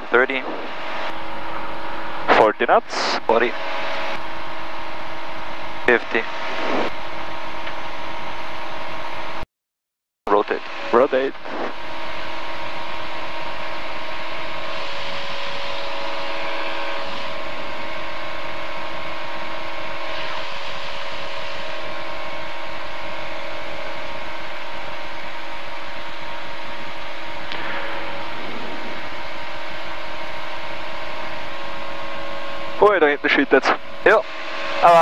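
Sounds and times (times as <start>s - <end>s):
aircraft engine and propeller running: 0.0s - 9.4s, 10.3s - 35.0s.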